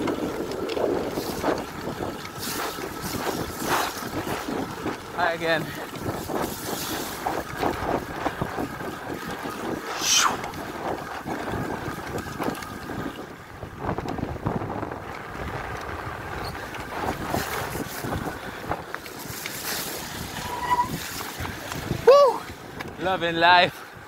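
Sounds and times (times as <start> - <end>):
tyres crunching and splashing: 0.0 - 13.5, 15.1 - 22.9
bike rattling over bumps: 0.0 - 24.0
wind buffeting microphone: 0.0 - 24.0.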